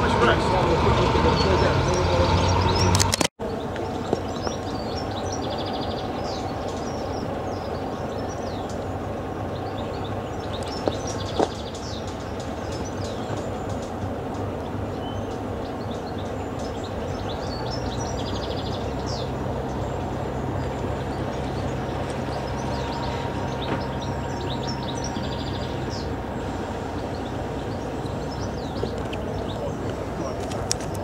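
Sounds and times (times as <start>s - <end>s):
birds chirping: 0.0s - 31.0s
diesel locomotive engine idling: 0.0s - 31.0s.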